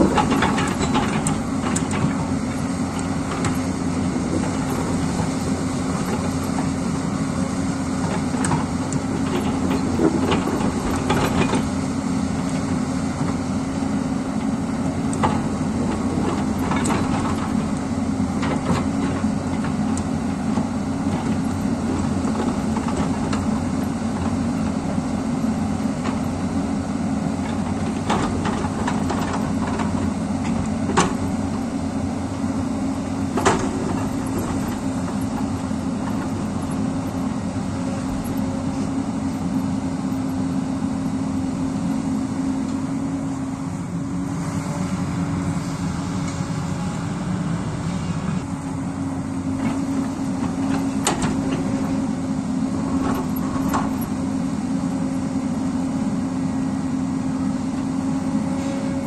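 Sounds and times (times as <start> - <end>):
diesel excavator engine: 0.0 - 59.0.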